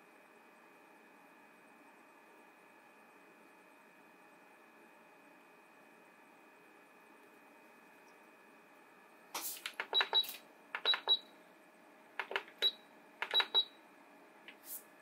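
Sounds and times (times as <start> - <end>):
diffuser faint steady hum: 0.0 - 15.0.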